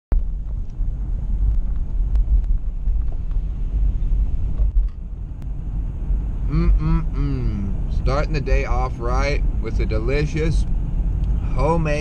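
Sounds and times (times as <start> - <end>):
vehicle road and engine rumble: 0.1 - 12.0.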